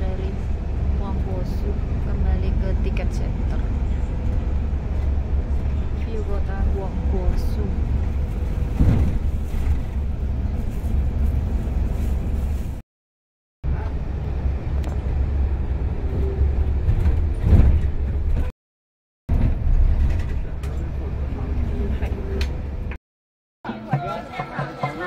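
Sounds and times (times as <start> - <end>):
bus engine and road rumble: 0.0 - 12.8, 13.6 - 18.5, 19.3 - 23.0.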